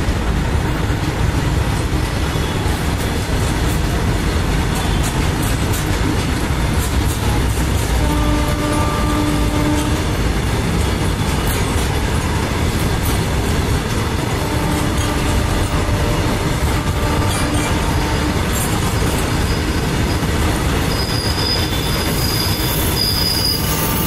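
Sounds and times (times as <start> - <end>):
steel wheels rumbling on rail: 0.0 - 24.0
rapid clicks of rail joints: 2.9 - 22.7.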